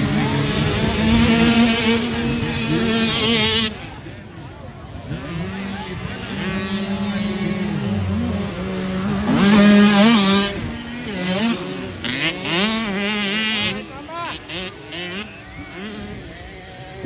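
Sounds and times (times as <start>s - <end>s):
small motocross bikes revving: 0.0s - 17.0s.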